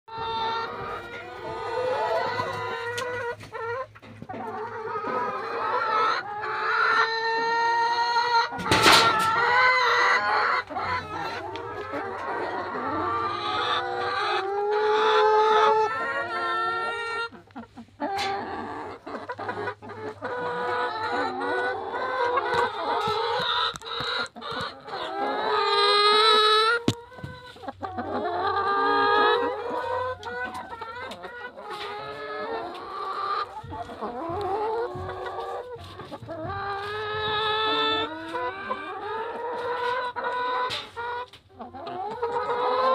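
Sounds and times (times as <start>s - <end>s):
chickens clucking: 0.1s - 42.9s.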